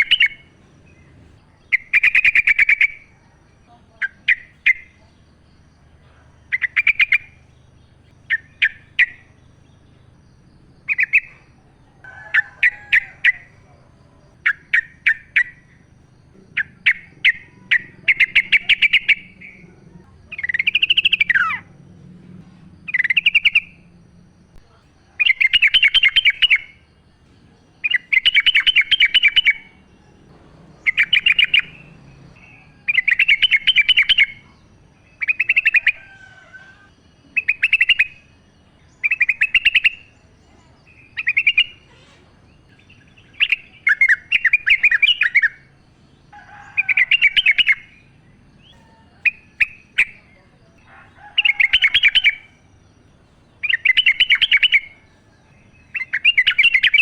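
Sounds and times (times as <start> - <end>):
bulbul singing chattering phrases: 0.0 - 57.0.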